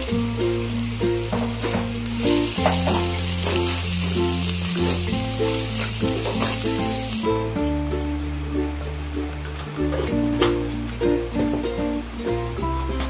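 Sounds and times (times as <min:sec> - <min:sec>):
onions sizzling in hot oil: 0:00.0 - 0:12.9
background music: 0:00.0 - 0:13.0.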